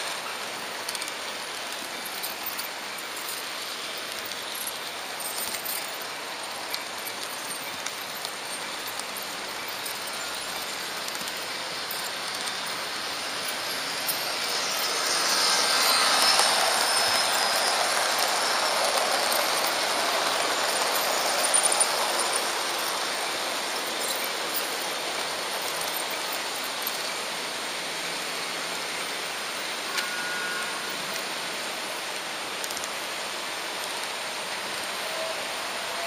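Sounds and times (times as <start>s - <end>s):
model train wheels on rails: 0.0s - 36.0s.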